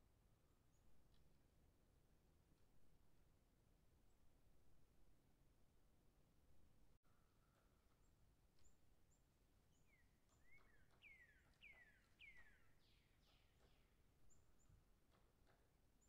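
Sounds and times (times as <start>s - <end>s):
faint birdsong: 0.0s - 5.2s, 5.8s - 16.0s.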